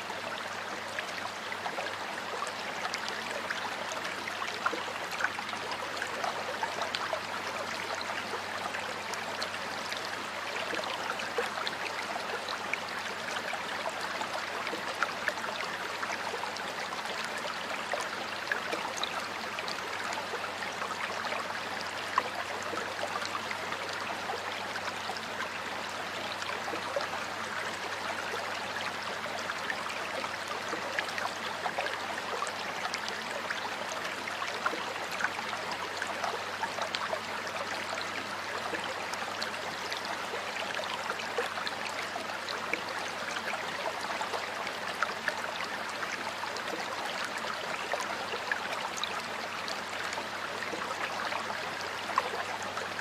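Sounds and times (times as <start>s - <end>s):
water flowing over rocks: 0.0s - 53.0s.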